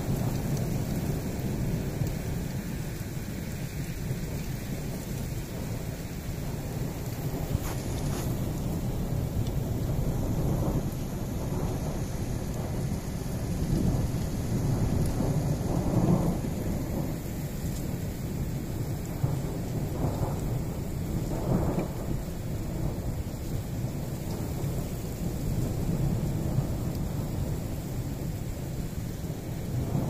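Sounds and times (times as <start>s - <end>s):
steady rain: 0.0s - 30.0s
rolling thunder: 4.1s - 30.0s.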